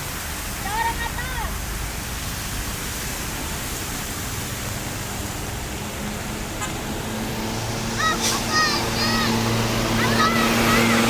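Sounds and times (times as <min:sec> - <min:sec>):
bus engine running low: 0:00.0 - 0:11.0
water rushing and spraying: 0:00.0 - 0:11.0.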